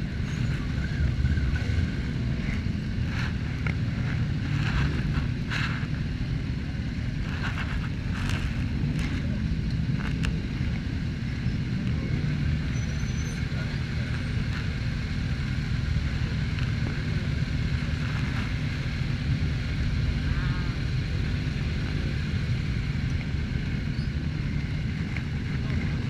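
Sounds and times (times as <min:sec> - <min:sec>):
motorcycle engines idling: 0:00.0 - 0:26.0.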